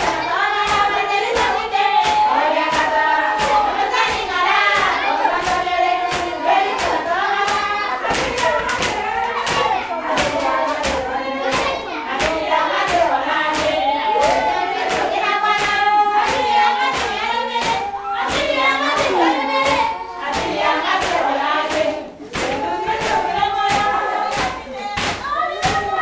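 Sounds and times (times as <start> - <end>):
rhythmic hand clapping: 0.0 - 26.0
women singing a hymn: 0.0 - 26.0.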